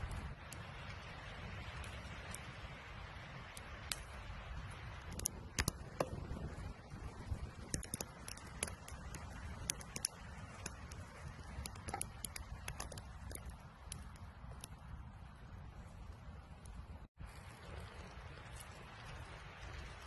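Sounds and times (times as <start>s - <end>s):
campfire crackling and popping: 0.0s - 20.0s
low rumble of fire: 0.0s - 20.0s.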